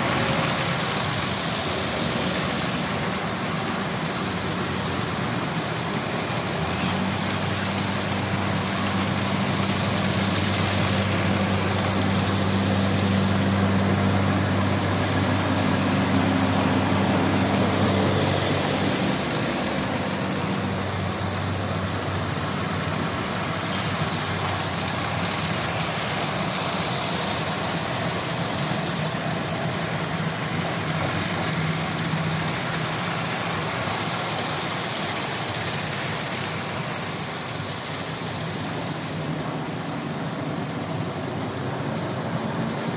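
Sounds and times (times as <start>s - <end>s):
diesel truck engine droning: 0.0s - 42.9s
trucks passing on wet road: 0.0s - 42.9s.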